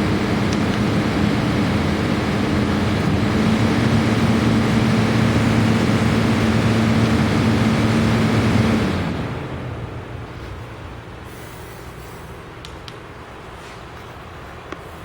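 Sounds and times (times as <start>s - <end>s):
air conditioner electric hum: 0.0s - 15.0s
fan blowing air: 0.0s - 15.0s.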